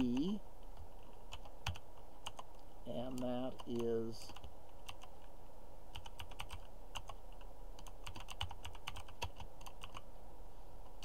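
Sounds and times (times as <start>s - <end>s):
computer keyboard typing: 0.0s - 5.3s, 5.9s - 10.0s.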